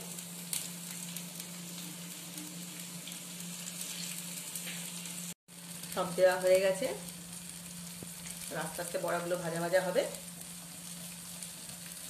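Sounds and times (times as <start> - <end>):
fritters sizzling in oil: 0.0 - 12.0.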